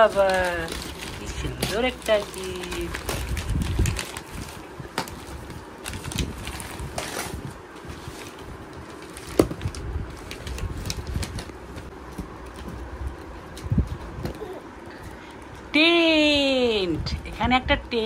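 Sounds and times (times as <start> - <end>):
wrapping paper rustling: 0.0 - 15.5.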